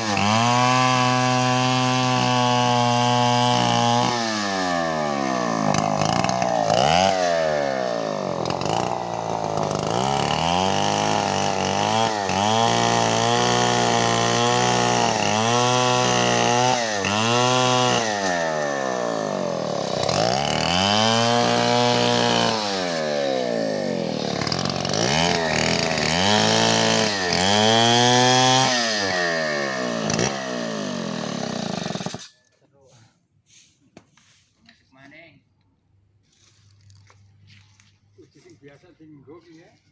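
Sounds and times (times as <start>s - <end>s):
chainsaw cutting wood: 0.0s - 32.5s.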